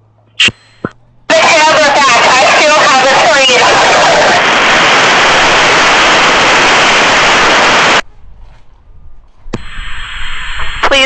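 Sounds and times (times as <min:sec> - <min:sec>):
radio static hiss: 0:00.4 - 0:08.0, 0:09.5 - 0:11.0.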